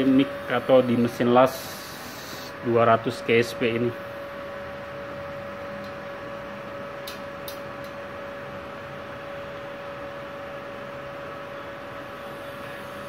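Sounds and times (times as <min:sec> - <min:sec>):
welding machine humming: 0:00.0 - 0:13.0.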